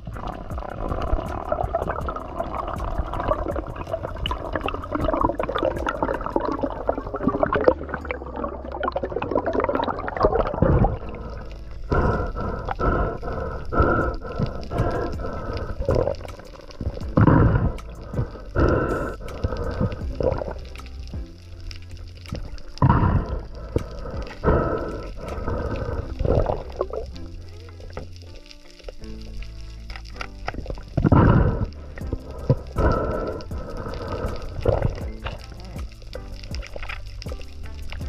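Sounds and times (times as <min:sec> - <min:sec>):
underwater gurgling and bubbling: 0:00.0 - 0:38.0.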